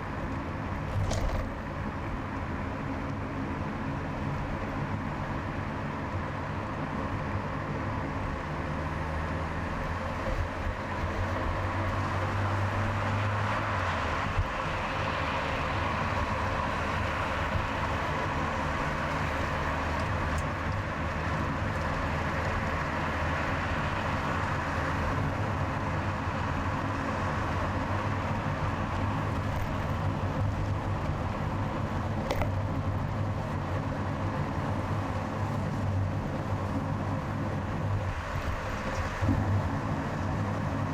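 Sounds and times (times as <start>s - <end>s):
car engine hum: 0.0s - 40.9s
tyre and road noise: 0.0s - 40.9s.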